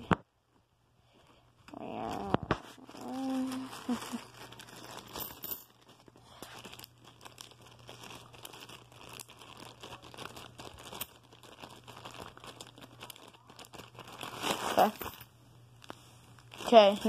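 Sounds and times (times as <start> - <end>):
plastic bag crinkling: 2.5 - 17.0.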